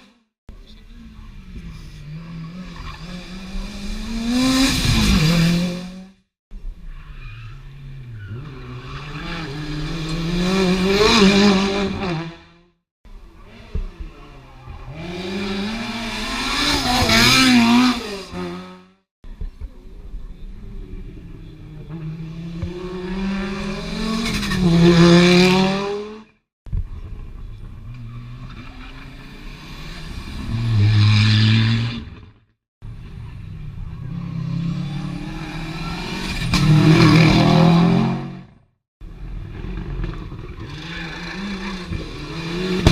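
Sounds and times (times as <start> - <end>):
rally cars passing at speed: 1.1 - 6.1, 7.5 - 12.7, 13.4 - 18.9, 20.8 - 26.3, 27.2 - 32.2, 32.8 - 42.9.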